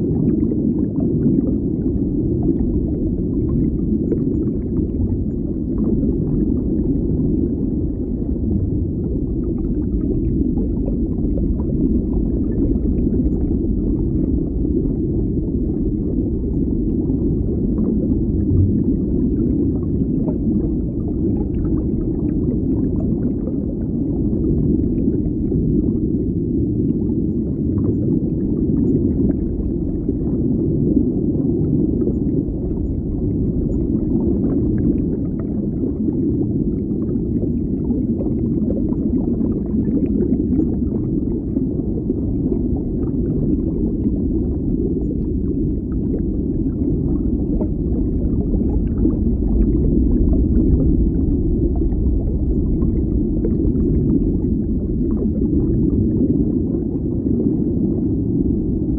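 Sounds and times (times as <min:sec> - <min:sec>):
muffled underwater rumble: 0:00.0 - 0:58.9.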